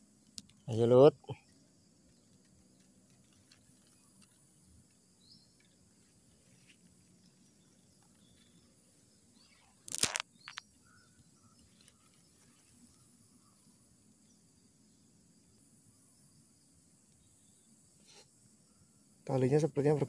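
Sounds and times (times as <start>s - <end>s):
faint high hiss: 3.2s - 20.0s.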